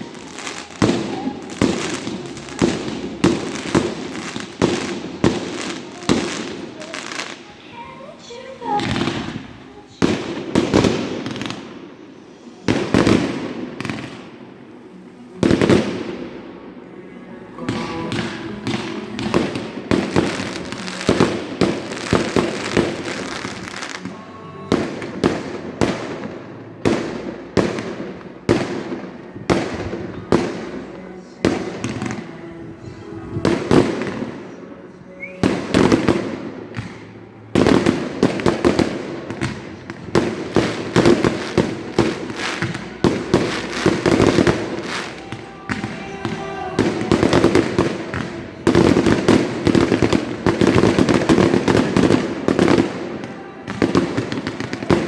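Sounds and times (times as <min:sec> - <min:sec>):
fireworks banging: 0:00.0 - 0:16.4, 0:17.6 - 0:55.0.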